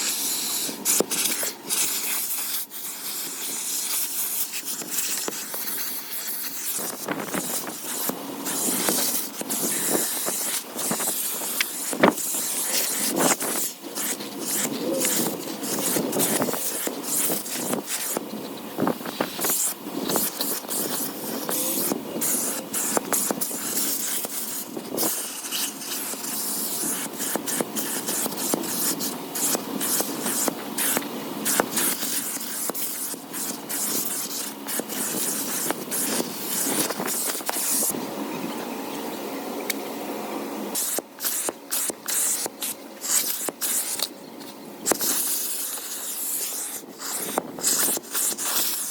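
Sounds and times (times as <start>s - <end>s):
steady rushing hiss: 0.0s - 38.1s, 40.5s - 48.9s.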